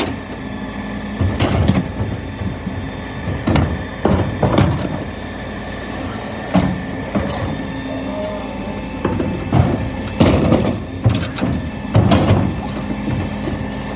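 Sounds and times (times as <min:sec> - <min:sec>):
bins knocking and banging: 0:00.0 - 0:13.9
lorry engine humming: 0:00.0 - 0:13.9.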